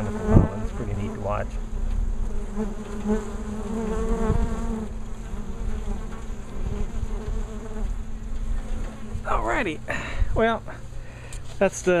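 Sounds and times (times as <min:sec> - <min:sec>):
close bee wing hum: 0:00.0 - 0:11.0
honeybees buzzing: 0:00.0 - 0:11.4.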